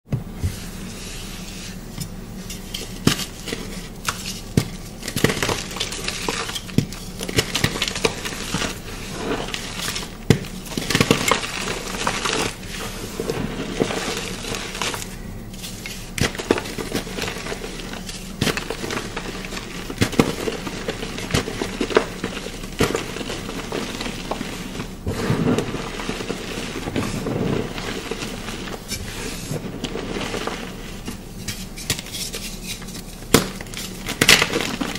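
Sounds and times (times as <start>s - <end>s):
chalk crunching and crackling: 0.5s - 34.9s.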